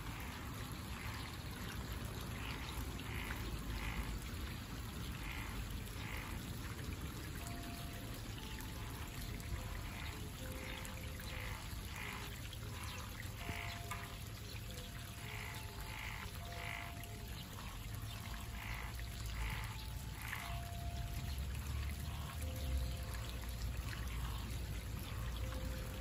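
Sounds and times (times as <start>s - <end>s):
frogs croaking: 0.0s - 26.0s
running water: 0.0s - 26.0s.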